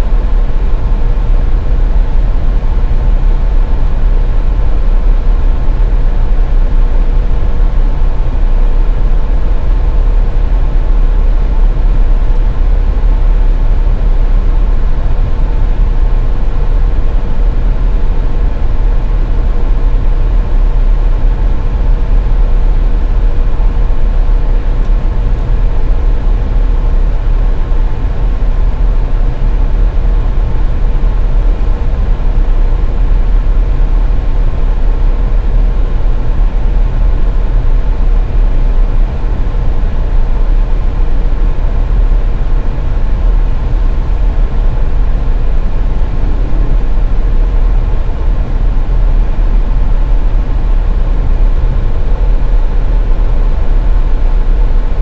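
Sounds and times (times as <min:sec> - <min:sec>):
car road and engine rumble: 0:00.0 - 0:55.0
faint constant hum: 0:00.0 - 0:55.0.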